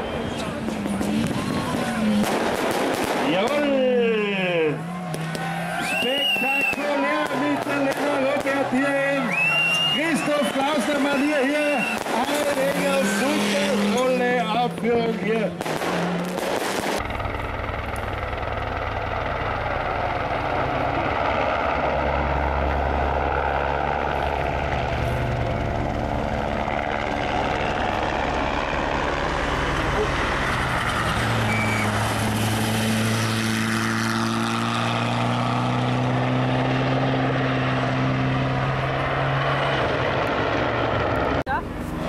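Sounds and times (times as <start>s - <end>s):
rally car engines: 0.0s - 18.0s, 18.9s - 42.0s
helicopter flying low: 0.0s - 42.0s.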